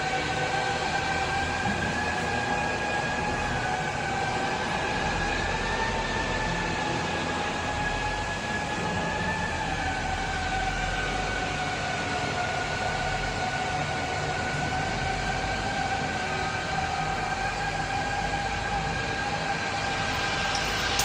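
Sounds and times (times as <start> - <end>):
machinery whining and rumbling: 0.0 - 21.0.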